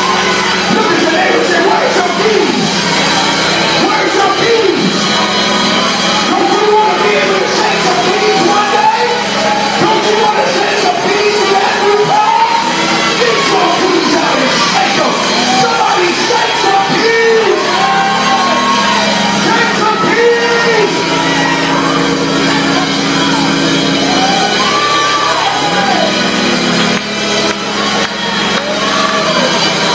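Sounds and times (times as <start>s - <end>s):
praise music: 0.0s - 29.9s
voices singing and shouting: 0.0s - 29.9s.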